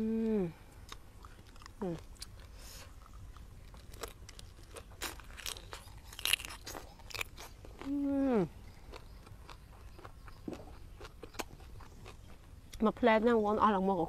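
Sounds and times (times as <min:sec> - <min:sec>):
crisp chewing crunches: 0:00.8 - 0:12.8.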